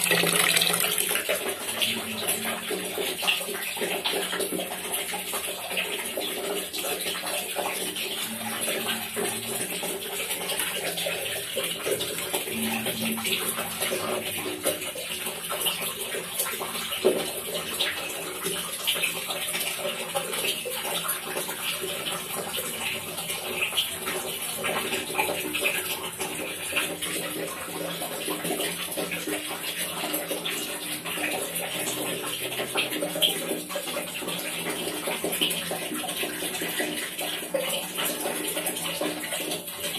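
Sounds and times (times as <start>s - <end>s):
drips splashing on water: 0.0s - 39.9s
water trickling into water: 0.0s - 39.9s.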